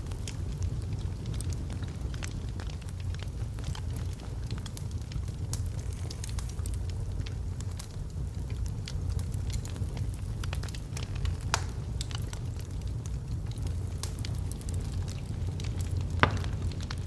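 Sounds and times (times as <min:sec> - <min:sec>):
fire crackling and popping: 0:00.0 - 0:17.0
low roar of flames: 0:00.0 - 0:17.0.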